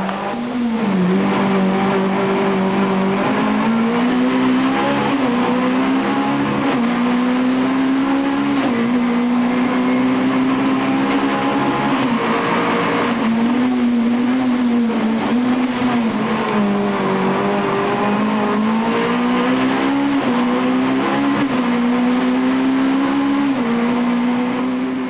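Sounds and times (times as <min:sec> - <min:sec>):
rally car engine at high revs: 0:00.0 - 0:25.0.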